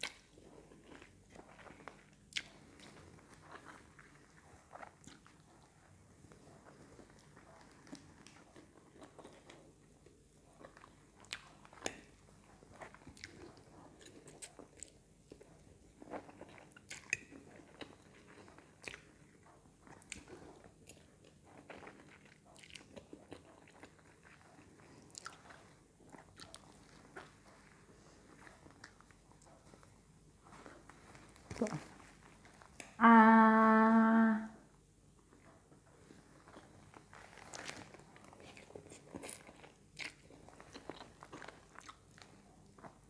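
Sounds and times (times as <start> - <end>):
person chewing noodles: 0.0 - 33.0, 35.9 - 43.0.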